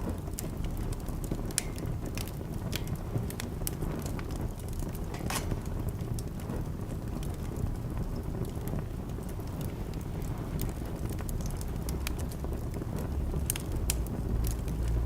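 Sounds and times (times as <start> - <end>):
low rumble of burning logs: 0.0 - 15.0
wood fire crackling and popping: 0.0 - 15.0.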